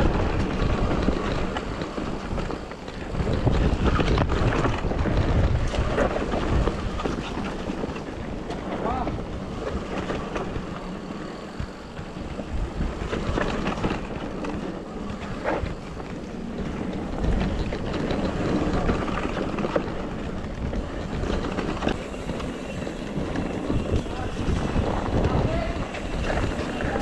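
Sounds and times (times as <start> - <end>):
bike rattling over rocks: 0.0 - 27.0
wind buffeting microphone: 0.0 - 27.0.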